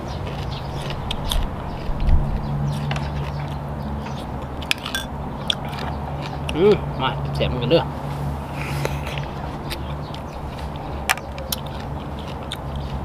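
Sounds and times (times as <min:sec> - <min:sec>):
chewing crunchy vegetable: 0:00.0 - 0:07.4, 0:08.5 - 0:13.0
steady low hum: 0:00.0 - 0:13.0.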